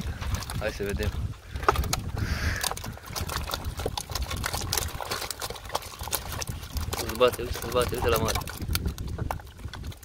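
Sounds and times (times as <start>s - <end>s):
fish slapping: 0.0s - 10.0s.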